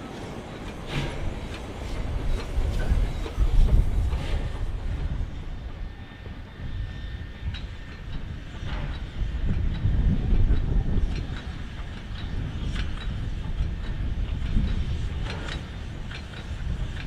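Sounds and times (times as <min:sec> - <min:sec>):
steam locomotive rumbling: 0:00.0 - 0:17.0.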